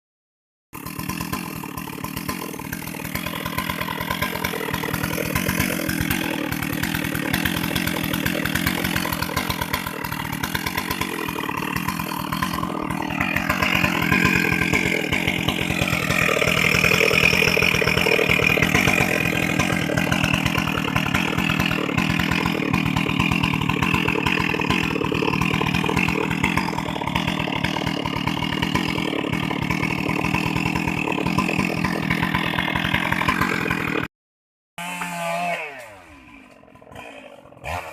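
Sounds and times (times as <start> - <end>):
chainsaw running: 0.8 - 34.1, 34.8 - 37.9.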